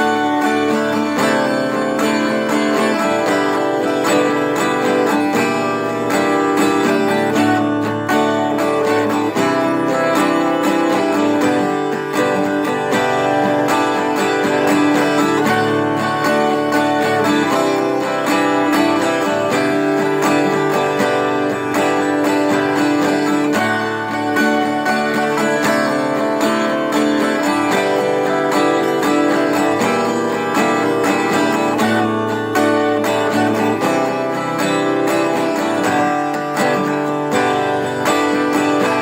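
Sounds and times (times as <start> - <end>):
guitar strumming chords: 0.0 - 39.0.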